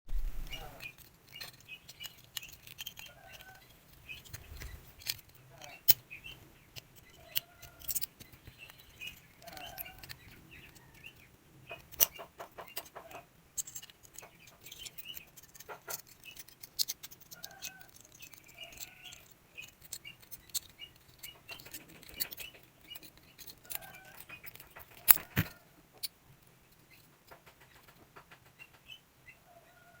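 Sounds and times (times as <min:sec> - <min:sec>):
faint bird chirps: 0:00.2 - 0:25.7, 0:26.6 - 0:30.0
small clicks and taps: 0:00.8 - 0:28.9.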